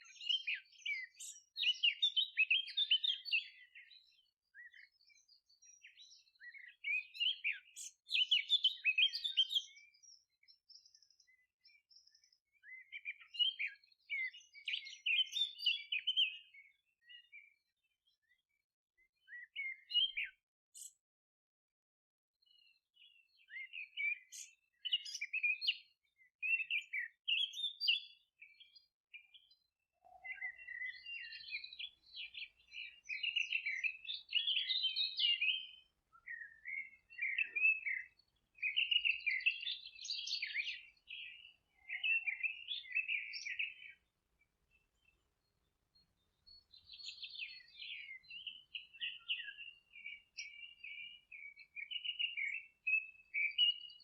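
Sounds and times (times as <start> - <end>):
small birds chirping: 0.0 - 21.1, 22.4 - 54.0.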